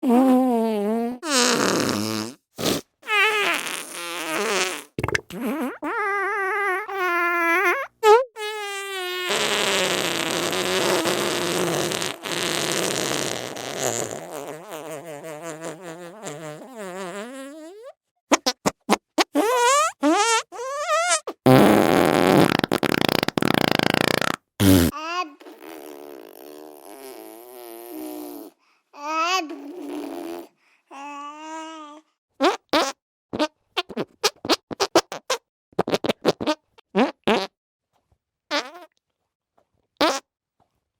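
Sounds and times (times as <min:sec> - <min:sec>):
comic fart sound effects: 0:00.0 - 0:28.5, 0:32.4 - 0:37.6, 0:38.5 - 0:38.9, 0:40.0 - 0:40.3.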